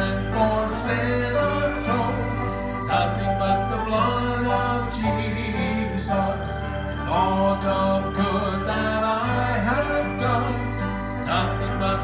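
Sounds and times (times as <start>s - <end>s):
instrumental accompaniment with bass: 0.0s - 12.0s
man singing into a microphone: 0.0s - 12.0s.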